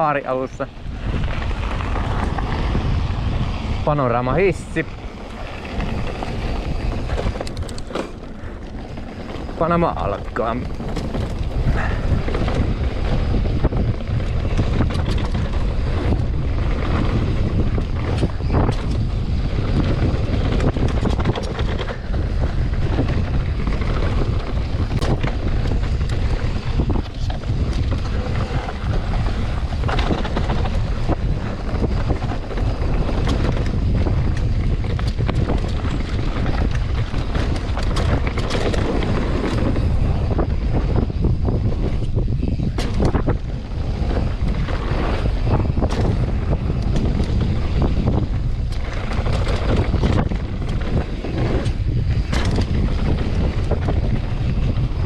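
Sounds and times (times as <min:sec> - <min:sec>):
bike knocks and rattles: 0:00.0 - 0:55.0
bike tyre noise: 0:00.0 - 0:55.0
wind rushing over microphone: 0:00.0 - 0:55.0.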